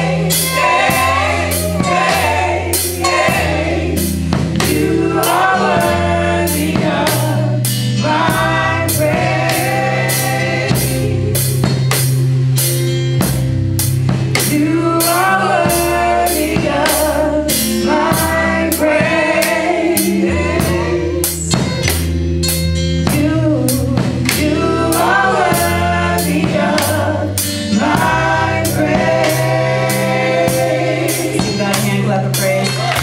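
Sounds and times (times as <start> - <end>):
gospel choir singing: 0.0 - 12.6, 14.1 - 22.1, 23.1 - 33.0
drum kit with cymbals: 0.0 - 33.0
low keyboard notes: 0.0 - 33.0.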